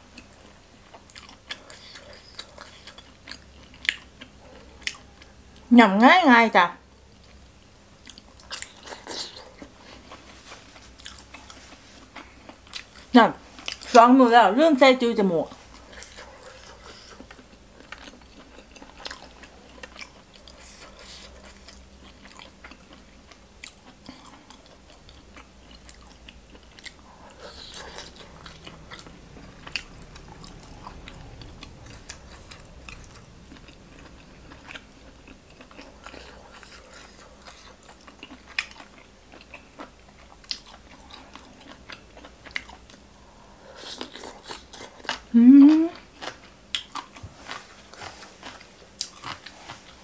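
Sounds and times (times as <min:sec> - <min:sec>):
person chewing and eating: 0:00.0 - 0:05.7, 0:07.2 - 0:14.0, 0:15.4 - 0:50.0.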